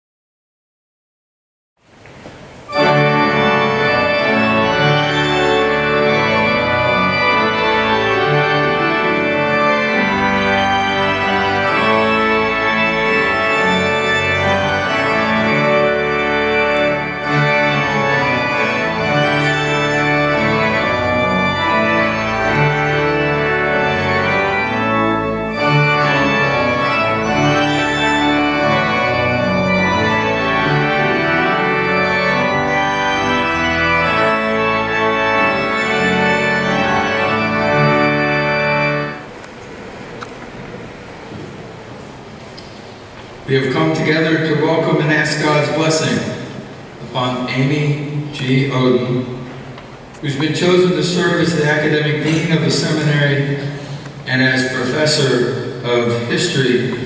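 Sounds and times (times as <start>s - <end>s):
church organ chords: 2.5s - 57.0s.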